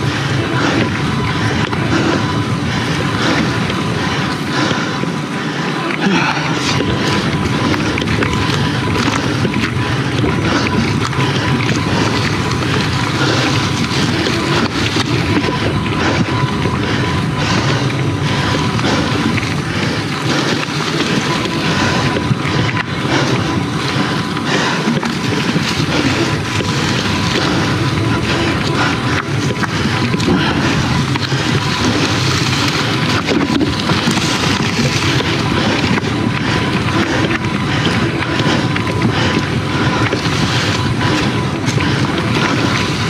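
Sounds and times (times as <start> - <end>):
bike rattling and knocking: 0.0 - 43.0
wind buffeting microphone: 0.0 - 43.0.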